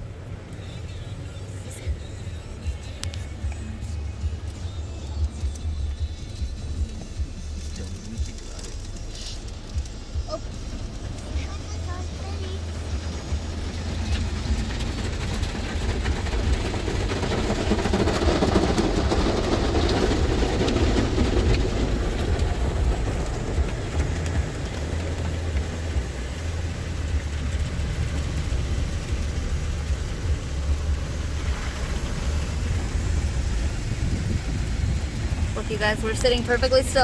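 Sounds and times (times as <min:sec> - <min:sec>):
car wash machinery rumble: 0:00.0 - 0:37.0
spraying and scrubbing: 0:00.2 - 0:37.0.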